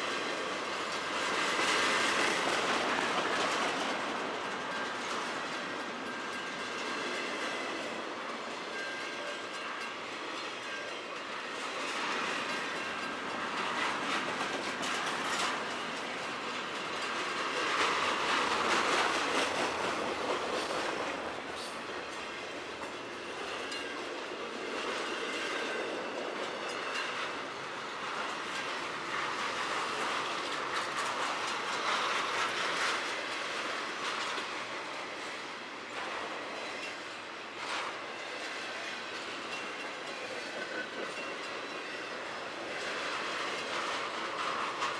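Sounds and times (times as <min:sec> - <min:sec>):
freight train cars rolling past: 0:00.0 - 0:44.9
wheels clicking over rail joints: 0:00.0 - 0:44.9.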